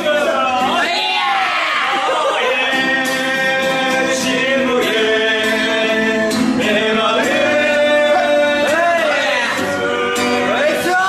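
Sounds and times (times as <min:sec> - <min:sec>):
plucked guitar: 0:00.0 - 0:11.0.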